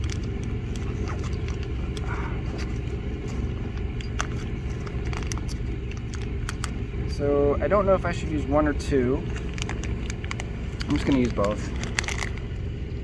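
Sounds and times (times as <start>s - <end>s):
generator engine humming: 0.0s - 13.0s.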